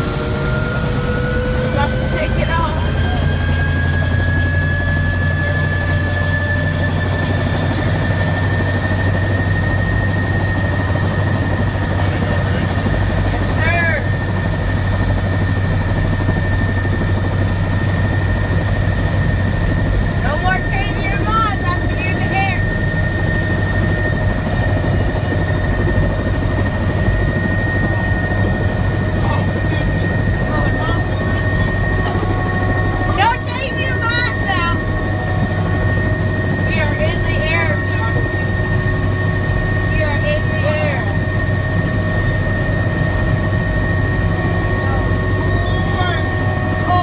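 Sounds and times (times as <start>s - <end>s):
helicopter rotor drone: 0.0s - 47.0s
helicopter turbine whine: 0.0s - 47.0s.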